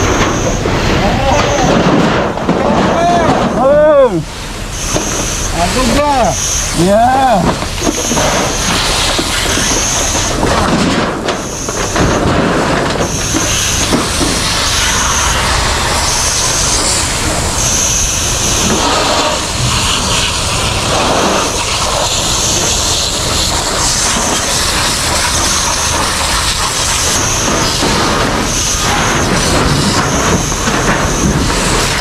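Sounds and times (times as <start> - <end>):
fire hose spraying water: 0.0 - 32.0
high pulsing tone: 0.0 - 32.0.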